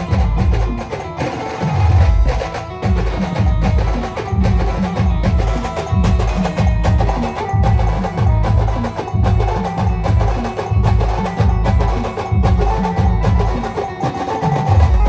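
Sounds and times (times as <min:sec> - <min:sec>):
band melody: 0:00.0 - 0:15.0
heavy repeating drum beat: 0:00.0 - 0:15.0.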